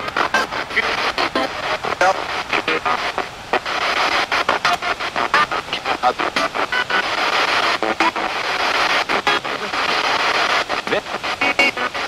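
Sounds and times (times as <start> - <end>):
choppy bursts of radio static: 0.0 - 12.0.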